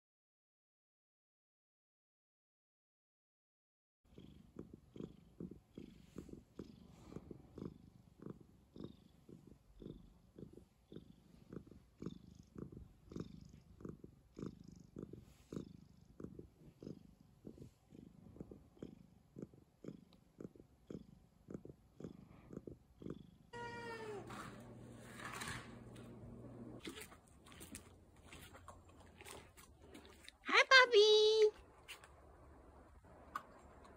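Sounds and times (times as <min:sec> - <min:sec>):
cat purring: 0:04.1 - 0:30.4, 0:31.5 - 0:33.9.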